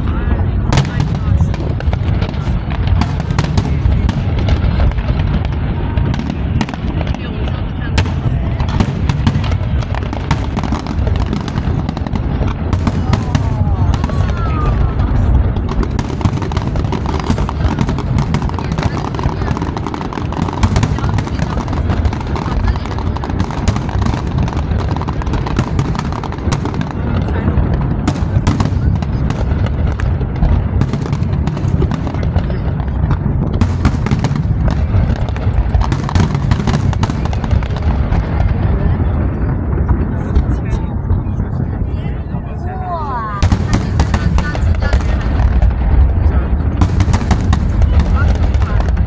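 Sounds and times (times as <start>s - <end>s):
fireworks cracks and bangs: 0.0s - 49.0s.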